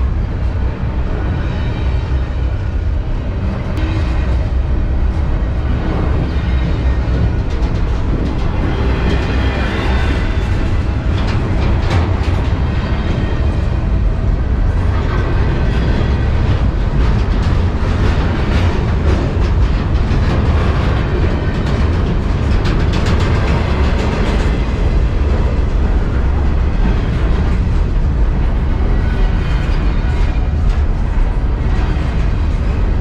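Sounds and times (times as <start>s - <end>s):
freight train wheels rumbling on rail: 0.0s - 33.0s
train cars clattering: 0.0s - 33.0s.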